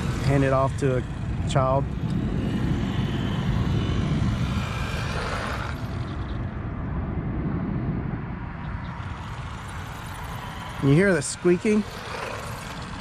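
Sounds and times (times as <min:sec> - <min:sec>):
rc truck motor whining: 0:00.0 - 0:06.4, 0:08.9 - 0:13.0.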